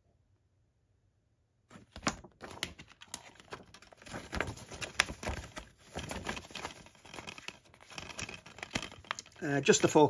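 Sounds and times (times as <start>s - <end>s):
plastic case clicks and rustles: 1.8s - 10.0s.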